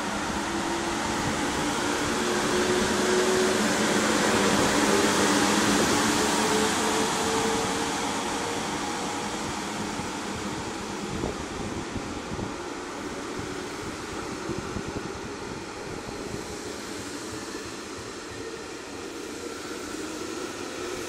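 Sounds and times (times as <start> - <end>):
electric train rushing past: 0.0 - 21.0
train whine rising in pitch: 0.0 - 21.0.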